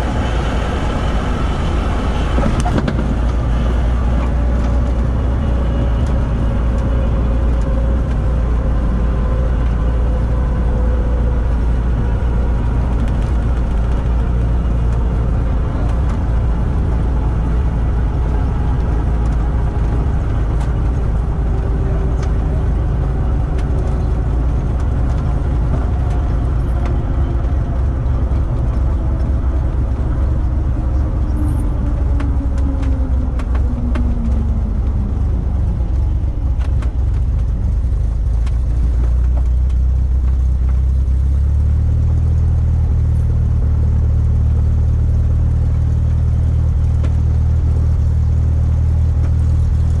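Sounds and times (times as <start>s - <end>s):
aircraft engine idling: 0.0s - 50.0s
low drone: 0.0s - 50.0s
wind: 0.0s - 50.0s.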